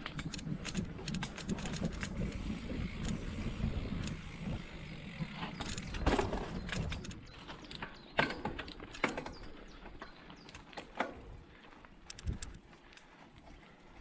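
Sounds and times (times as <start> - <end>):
bike chain clicks and knocks: 0.0 - 11.4, 12.0 - 13.2
tyres rolling on dirt: 0.0 - 14.0.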